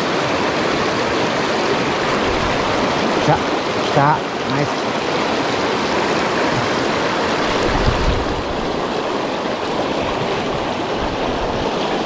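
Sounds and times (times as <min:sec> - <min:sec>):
creek rushing over stones: 0:00.0 - 0:12.0.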